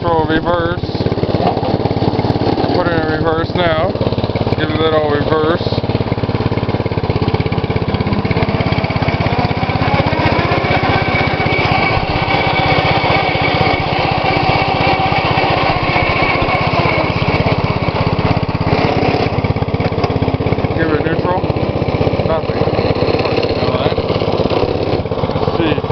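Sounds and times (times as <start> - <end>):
lawn tractor engine running: 0.0 - 25.9
thin whine: 2.2 - 25.9.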